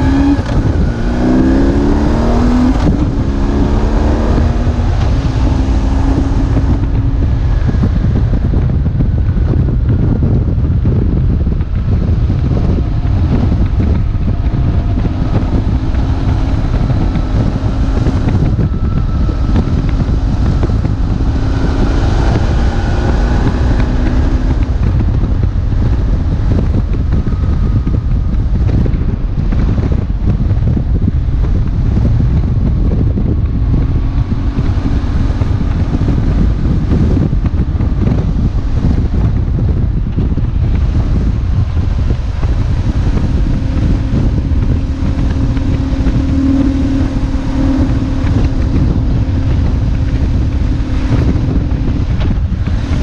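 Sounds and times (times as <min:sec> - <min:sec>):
motorcycle engine: 0:00.0 - 0:53.0
wind buffeting microphone: 0:00.0 - 0:53.0.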